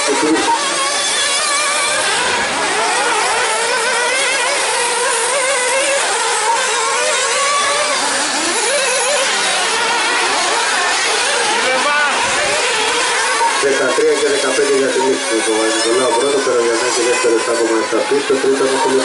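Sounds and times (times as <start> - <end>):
rc buggy engines revving: 0.0 - 19.0.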